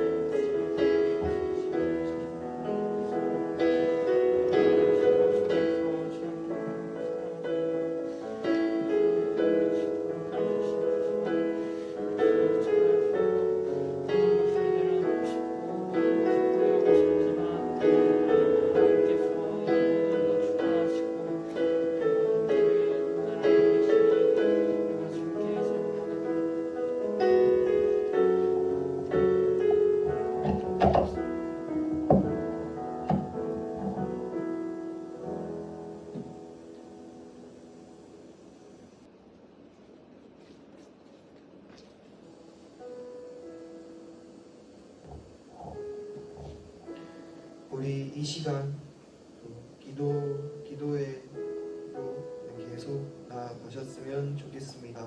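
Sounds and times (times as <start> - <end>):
soft piano music: 0.0 - 39.8, 41.8 - 55.0.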